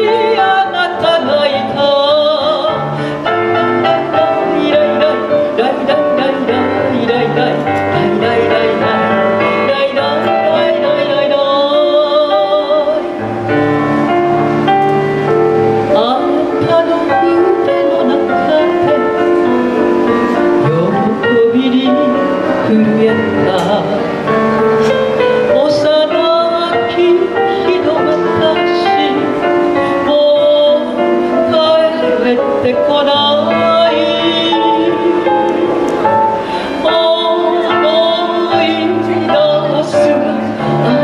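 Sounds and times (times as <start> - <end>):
instrumental accompaniment: 0.0 - 41.0
woman singing with vibrato: 0.0 - 41.0.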